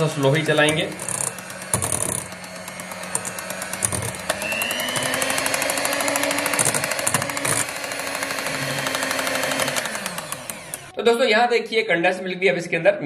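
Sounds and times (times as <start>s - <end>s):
electric hand mixer whipping cream: 0.0s - 11.2s.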